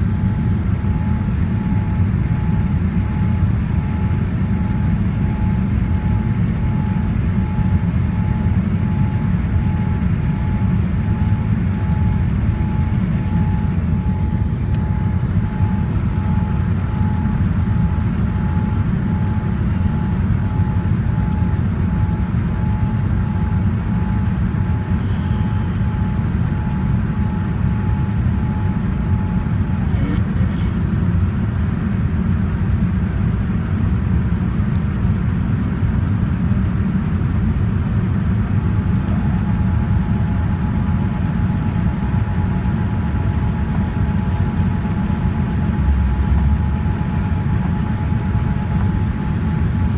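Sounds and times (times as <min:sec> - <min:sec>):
airliner cabin engine rumble: 0:00.0 - 0:49.9
faint steady whine: 0:00.0 - 0:49.9.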